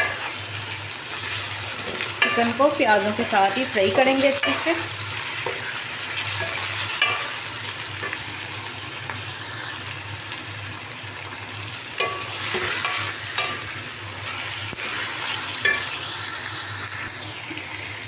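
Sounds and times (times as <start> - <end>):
chicken and onions sizzling in oil: 0.0 - 18.0.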